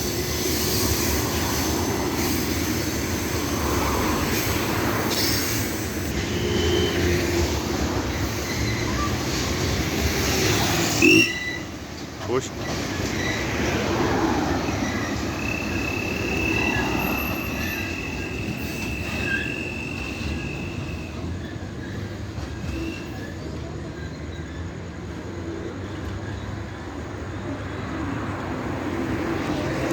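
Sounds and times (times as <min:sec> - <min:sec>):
wheels squealing: 0:00.0 - 0:24.8
train cars rumbling: 0:00.0 - 0:29.9.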